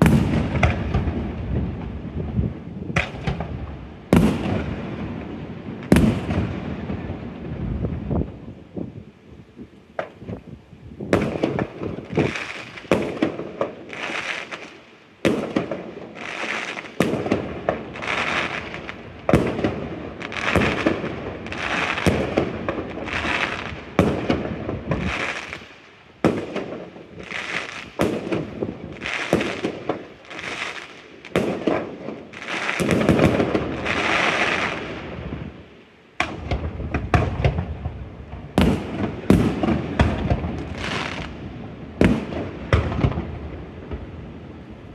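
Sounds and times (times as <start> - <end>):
fireworks bursting: 0.0 - 8.4, 9.9 - 44.9.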